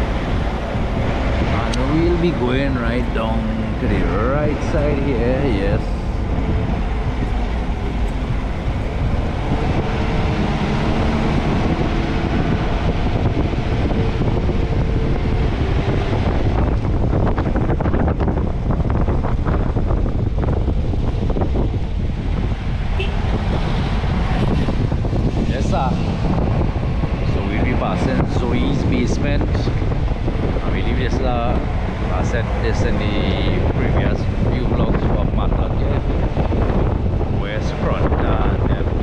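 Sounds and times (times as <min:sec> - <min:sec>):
car engine and road rumble: 0:00.0 - 0:39.0
wind on microphone: 0:00.0 - 0:39.0.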